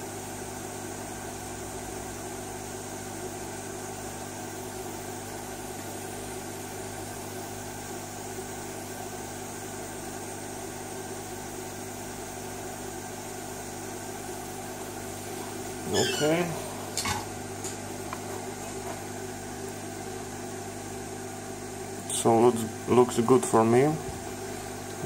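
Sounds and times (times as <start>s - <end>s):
low electrical hum: 0.0s - 25.0s
machine hum with hiss: 0.0s - 25.0s.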